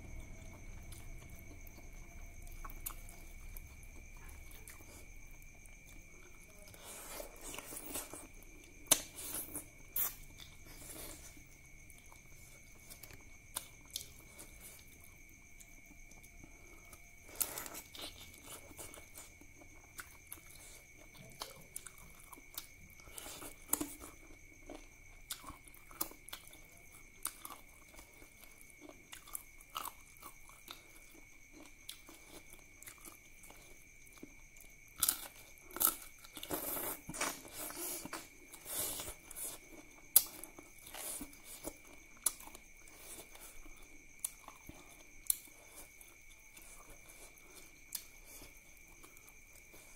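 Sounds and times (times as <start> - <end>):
food crunching: 0.0 - 49.9
person chewing with mouth open: 0.1 - 49.9.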